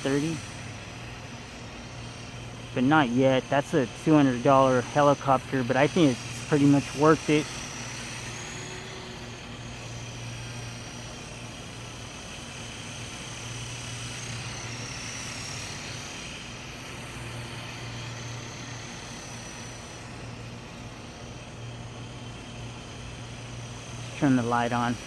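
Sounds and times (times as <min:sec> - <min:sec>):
electric motor whine: 0:00.0 - 0:25.0
toy helicopter rotor hum: 0:00.0 - 0:25.0.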